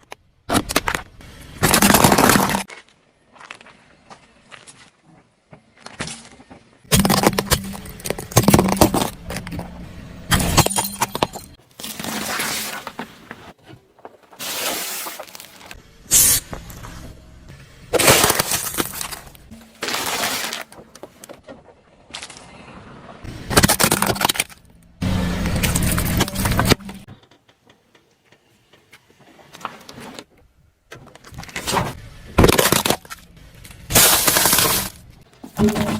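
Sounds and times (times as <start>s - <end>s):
objects crunching under car tyre: 0.5s - 17.1s, 17.9s - 27.1s, 30.9s - 35.9s.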